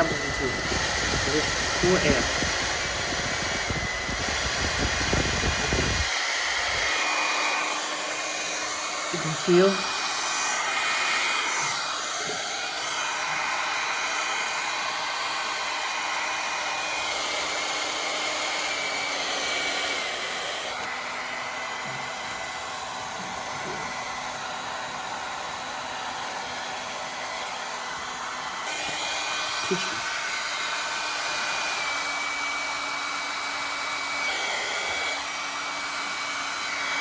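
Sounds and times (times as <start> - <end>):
hair dryer blowing air: 0.0 - 37.0.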